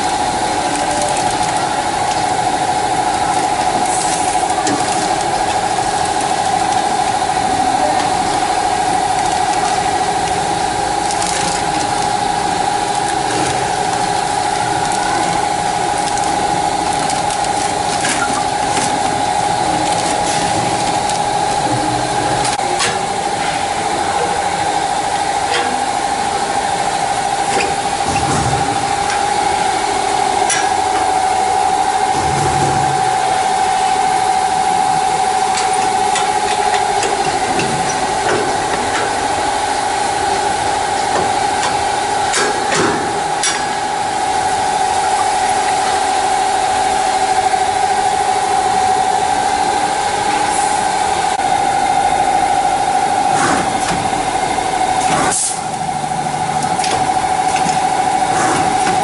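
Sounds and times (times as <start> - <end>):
machine motor whine: 0.0 - 59.0.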